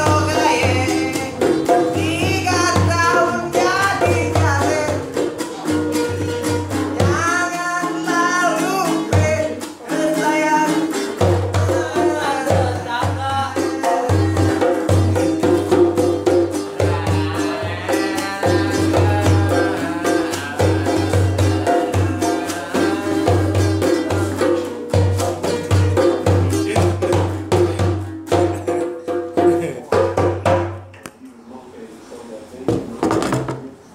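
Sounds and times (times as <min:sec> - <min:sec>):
person singing: 0:00.0 - 0:15.6, 0:16.2 - 0:28.8
acoustic guitar strumming: 0:00.0 - 0:31.0.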